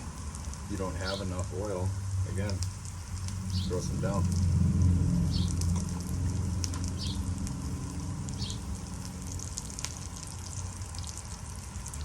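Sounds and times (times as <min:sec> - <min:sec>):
steady low hum: 0:00.0 - 0:10.8
oil sizzling and crackling: 0:00.0 - 0:12.0.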